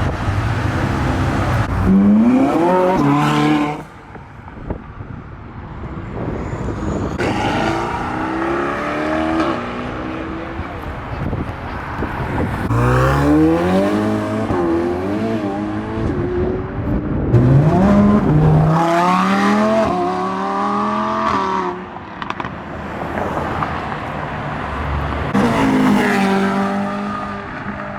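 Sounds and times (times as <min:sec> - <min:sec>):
car engines accelerating: 0:00.0 - 0:27.9.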